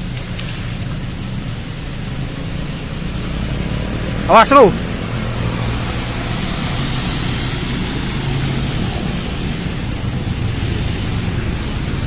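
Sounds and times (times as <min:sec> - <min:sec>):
constant rushing noise: 0:00.0 - 0:12.0.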